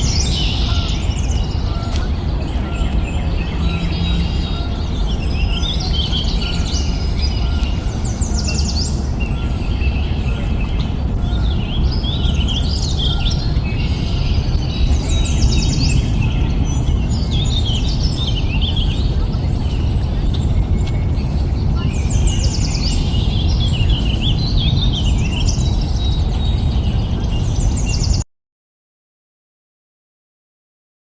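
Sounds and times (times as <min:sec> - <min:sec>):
songbirds chirping and singing: 0:00.0 - 0:28.2
steady low rumble: 0:00.0 - 0:28.2.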